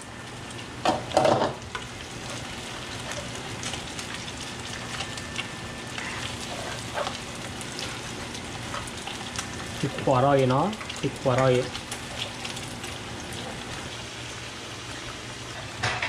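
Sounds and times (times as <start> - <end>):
meat sizzling in oil: 0.0 - 16.0.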